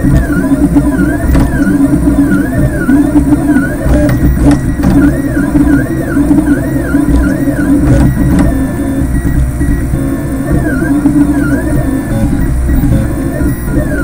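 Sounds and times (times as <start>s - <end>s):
steady hum: 0.0s - 14.0s
stepper motors whining: 0.0s - 14.0s.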